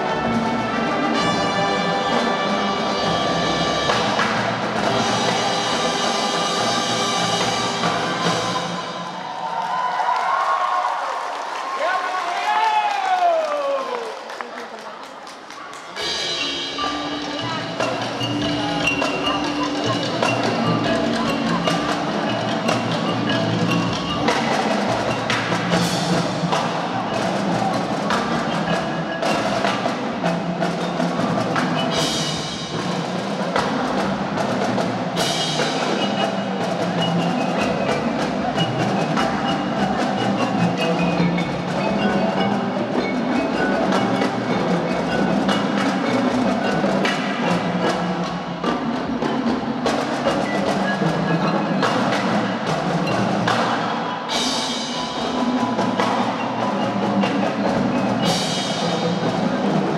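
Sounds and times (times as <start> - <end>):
marimba and xylophone melody: 0.0 - 9.2, 16.0 - 59.9
marching drums: 0.0 - 10.2, 16.0 - 59.9.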